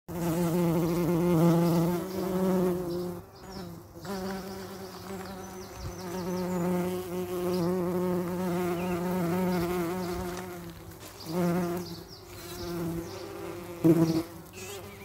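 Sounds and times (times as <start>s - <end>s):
bees buzzing: 0.1s - 15.0s.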